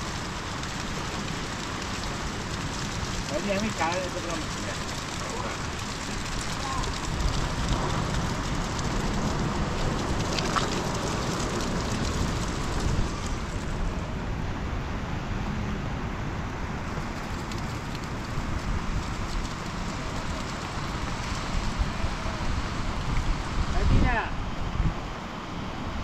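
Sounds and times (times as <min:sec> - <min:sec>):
steady rain: 0:00.0 - 0:26.0
wind rumble on microphone: 0:00.0 - 0:26.0.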